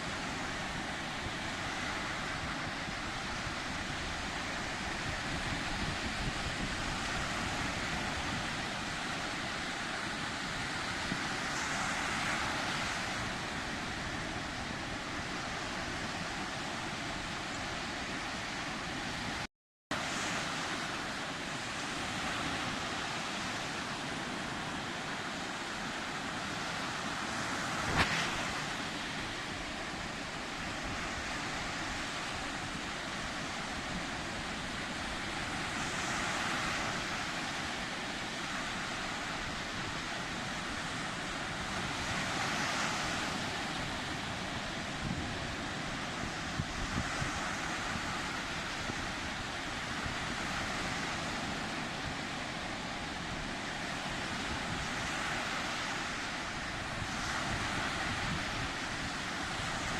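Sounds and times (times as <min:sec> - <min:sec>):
sea surf washing: 0:00.0 - 0:59.9
waves breaking: 0:00.0 - 0:59.9.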